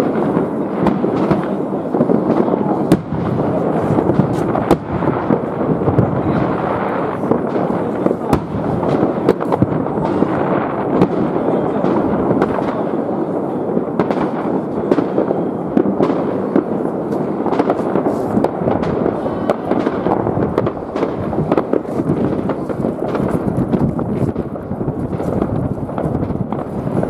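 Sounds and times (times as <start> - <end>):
fireworks booming and crackling: 0.0 - 27.0
sharp firework bangs: 0.0 - 27.0.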